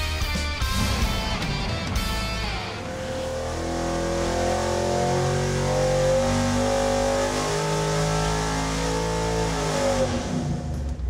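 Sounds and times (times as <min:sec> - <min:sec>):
engine running under load: 0:00.6 - 0:11.0.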